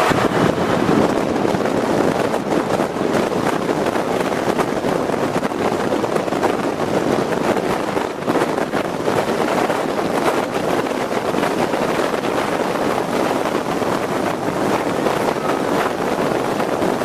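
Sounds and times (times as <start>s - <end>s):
vehicle wind and road noise: 0.0s - 17.0s
wind buffeting microphone: 0.0s - 17.0s.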